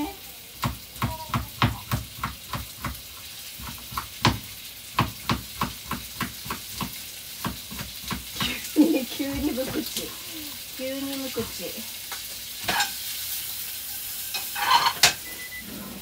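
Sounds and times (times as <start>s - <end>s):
light sizzle in frying pan: 0.0s - 16.0s.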